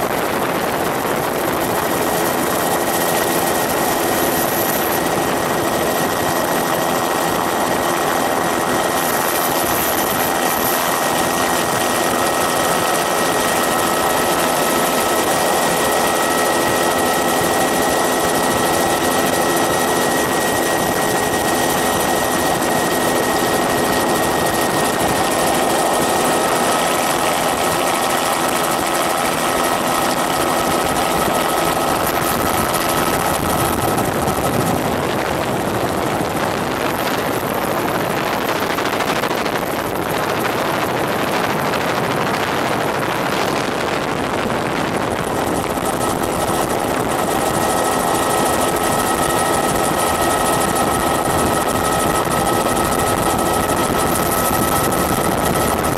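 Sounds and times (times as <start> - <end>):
drone motors and propellers whining: 0.0 - 55.9.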